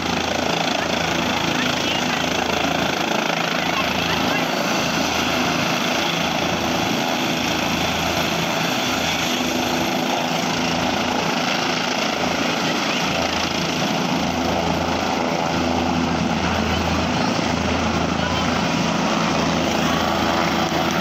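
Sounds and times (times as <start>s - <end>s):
helicopter rotor beat: 0.0s - 21.0s
helicopter turbine whine: 0.0s - 21.0s.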